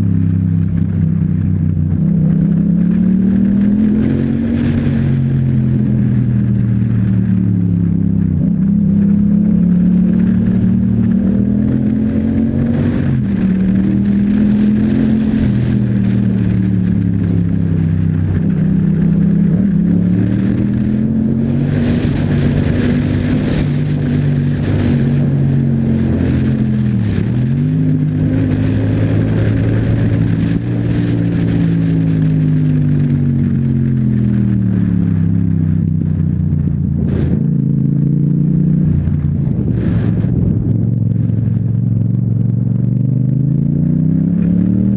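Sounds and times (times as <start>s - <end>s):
motorcycle engine revving: 0.0s - 44.9s
wind rushing over microphone: 0.0s - 44.9s.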